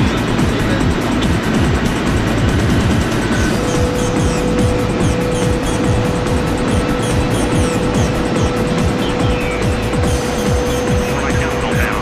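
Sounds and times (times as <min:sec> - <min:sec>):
high-speed train running noise: 0:00.0 - 0:12.0
music: 0:00.0 - 0:12.0.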